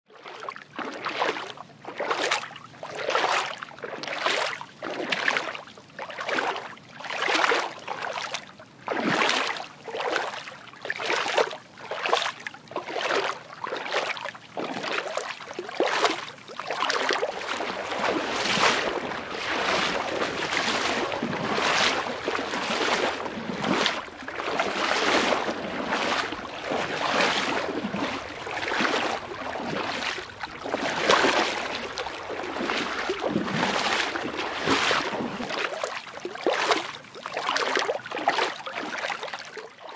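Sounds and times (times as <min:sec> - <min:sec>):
footsteps wading through water: 0:00.1 - 0:39.9.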